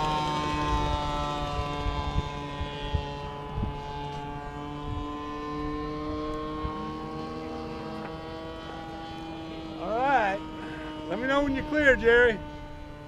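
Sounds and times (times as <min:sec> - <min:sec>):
model airplane engine drone: 0:00.0 - 0:13.0
wind buffeting microphone: 0:00.0 - 0:13.0.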